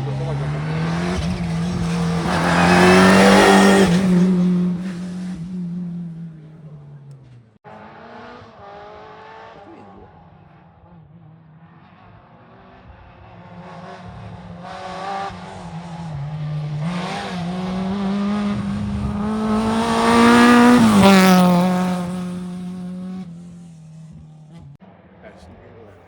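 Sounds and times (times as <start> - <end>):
rally car engine at full throttle: 0.0 - 25.9.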